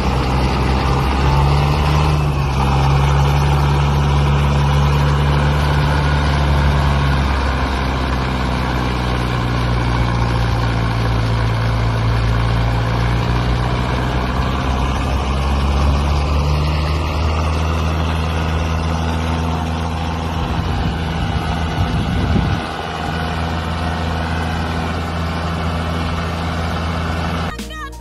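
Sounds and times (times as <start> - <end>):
tractor diesel engine under load: 0.0 - 27.6.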